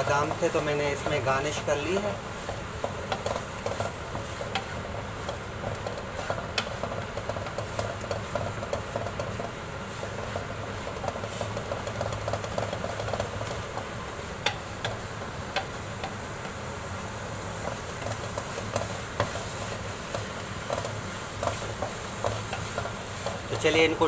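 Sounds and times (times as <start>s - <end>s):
spatula scraping a pan: 0.2s - 16.6s, 17.6s - 24.0s.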